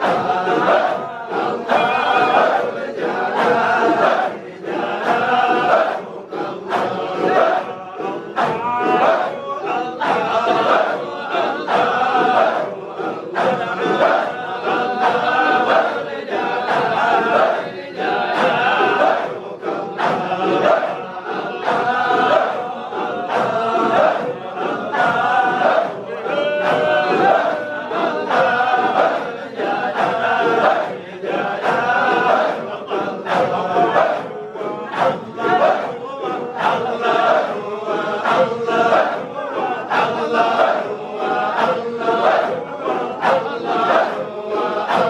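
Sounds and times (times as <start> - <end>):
men chanting together: 0.0 - 45.0
sharp rhythmic beat: 0.0 - 45.0.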